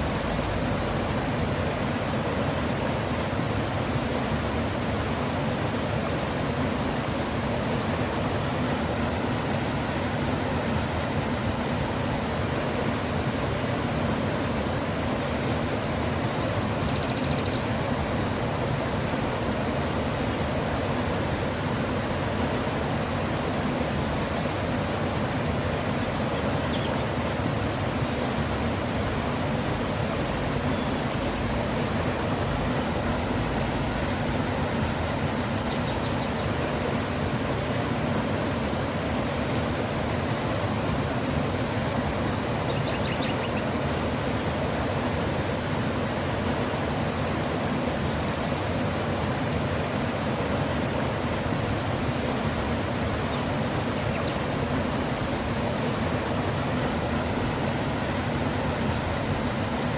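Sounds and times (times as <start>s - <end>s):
insect chirping: 0.0s - 1.8s, 2.6s - 10.4s, 13.6s - 35.0s, 35.6s - 43.6s, 47.0s - 50.2s, 51.2s - 59.7s
river water rushing: 0.0s - 59.9s.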